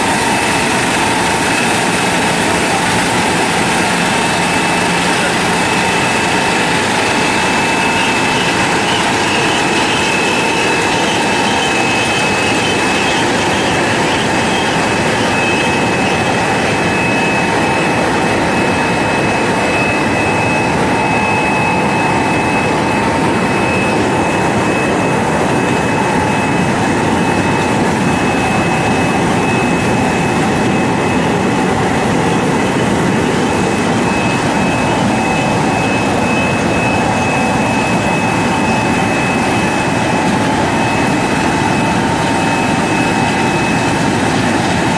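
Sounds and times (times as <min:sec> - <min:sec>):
constant high whine: 0:00.0 - 0:44.9
washing machine running: 0:00.0 - 0:44.9.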